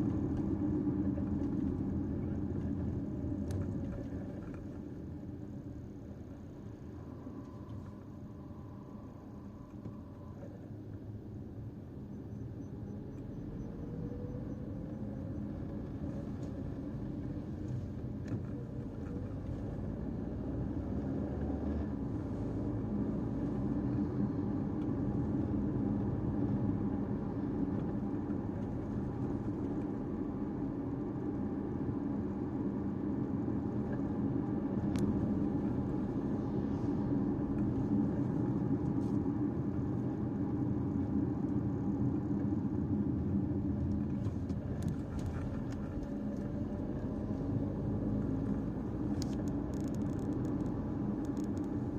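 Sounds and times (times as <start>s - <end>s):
car engine and tyre rumble: 0.0s - 51.9s.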